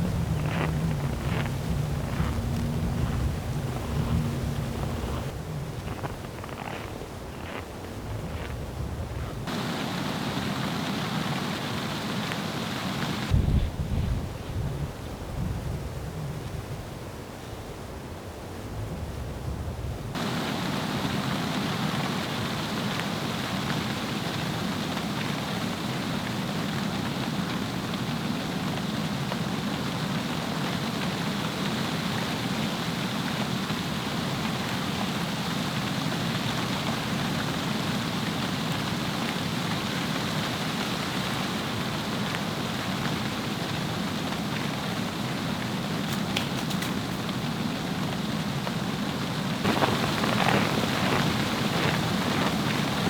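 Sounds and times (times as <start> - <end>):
rain pattering: 0.0 - 13.4, 20.1 - 53.0.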